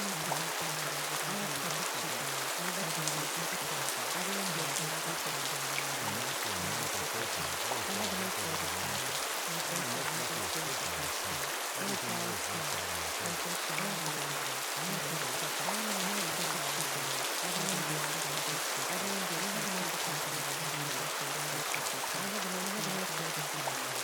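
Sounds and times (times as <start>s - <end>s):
low voice-like murmur: 0.0s - 23.8s
steady rain patter: 0.0s - 24.0s.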